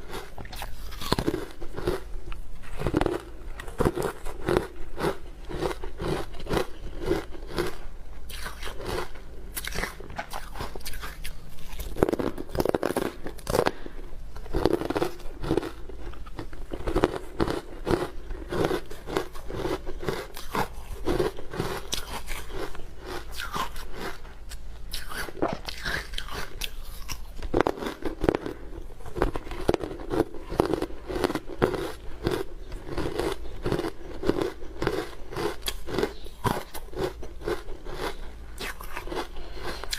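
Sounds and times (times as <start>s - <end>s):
crunching frozen ice: 0.0s - 2.1s, 2.7s - 24.2s, 24.9s - 39.9s.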